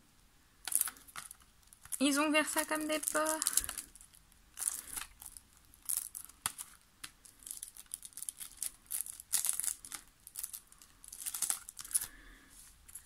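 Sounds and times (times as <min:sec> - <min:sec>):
plastic wrapper crinkling: 0:00.6 - 0:13.0.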